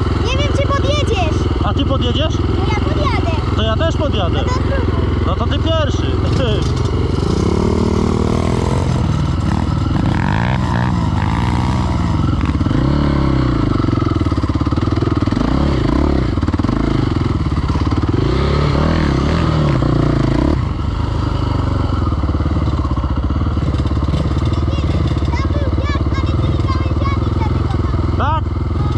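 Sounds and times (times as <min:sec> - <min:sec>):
quad engine revving: 0:00.0 - 0:28.9
small pit bike engine running: 0:00.0 - 0:28.9.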